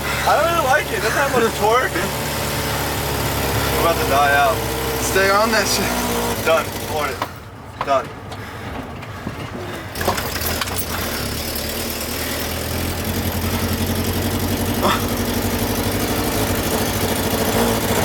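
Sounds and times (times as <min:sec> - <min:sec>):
car engine labouring: 0:00.0 - 0:18.0.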